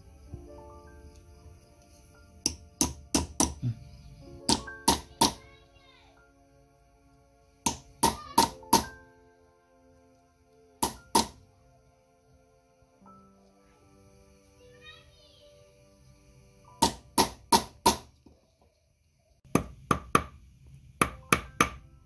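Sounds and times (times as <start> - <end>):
background music: 0.0 - 18.5, 19.5 - 22.0.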